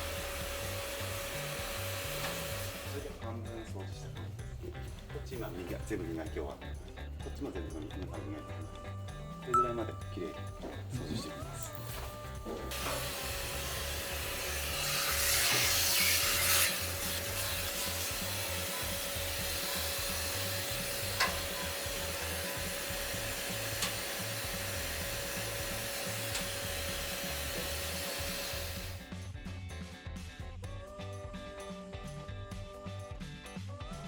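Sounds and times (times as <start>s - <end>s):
brush scrubbing stove: 0.0s - 29.1s.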